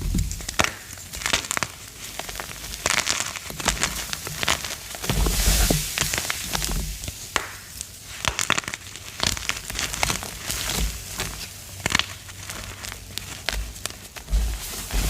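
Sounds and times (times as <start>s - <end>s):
chalk being crushed: 0.3s - 15.0s.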